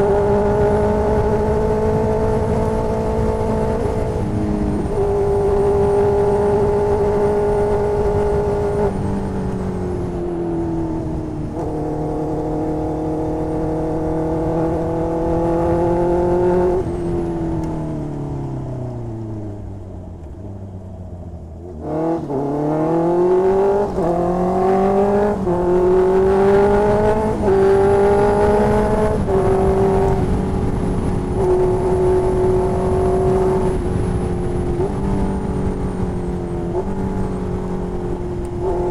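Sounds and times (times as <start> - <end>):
motorcycle engine revving: 0.0 - 17.8, 21.5 - 38.9.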